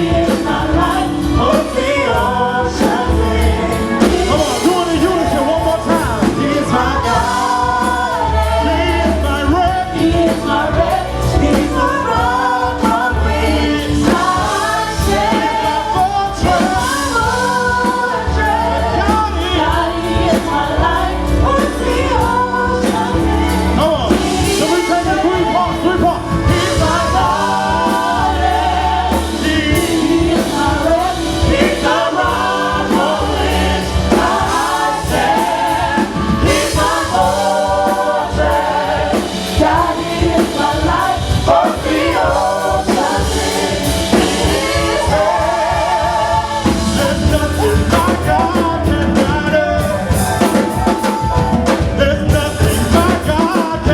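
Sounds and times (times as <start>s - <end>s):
band with strong bass line: 0.0s - 53.9s
group of voices singing: 0.0s - 53.9s.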